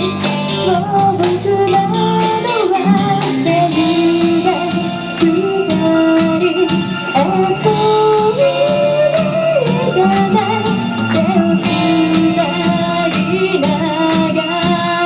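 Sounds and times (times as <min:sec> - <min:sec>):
instrumental backing with beat: 0:00.0 - 0:15.0
woman singing slow melody: 0:00.5 - 0:15.0.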